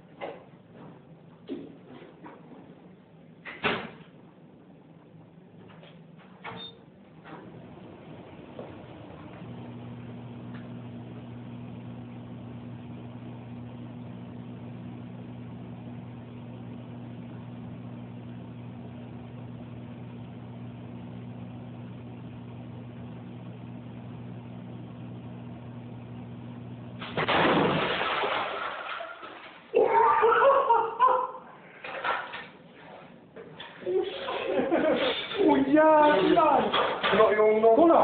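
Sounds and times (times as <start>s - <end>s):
microwave oven humming: 0.0s - 28.7s, 29.7s - 38.0s.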